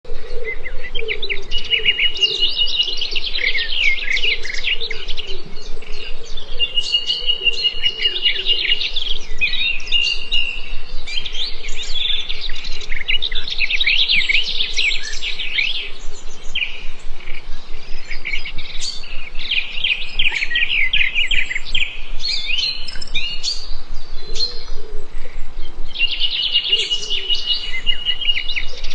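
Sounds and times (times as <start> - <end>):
birds chirping and trilling: 0.0 - 28.9.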